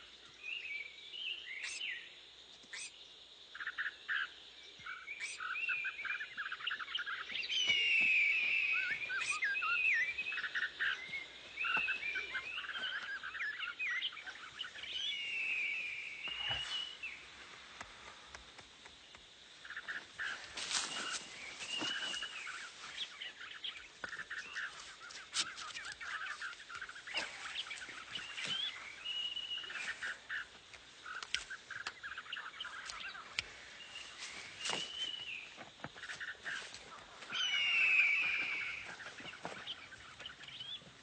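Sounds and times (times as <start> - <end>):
birds chirping and calling: 0.0 - 18.2, 19.5 - 41.0.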